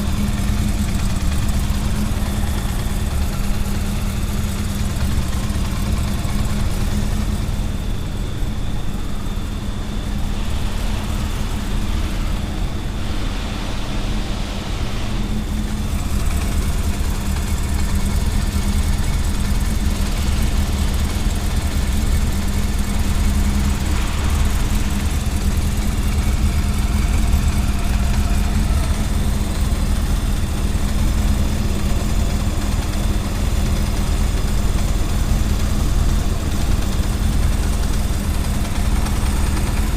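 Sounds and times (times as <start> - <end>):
motorcycle engine idling: 0.0 - 13.2, 15.3 - 39.9
engine rattling noise: 0.0 - 39.9.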